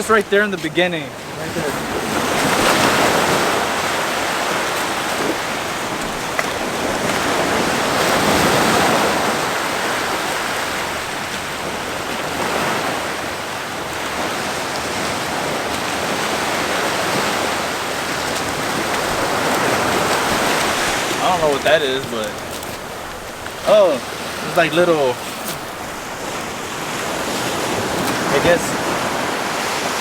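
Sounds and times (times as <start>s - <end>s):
ocean surf washing onto beach: 0.0s - 30.0s.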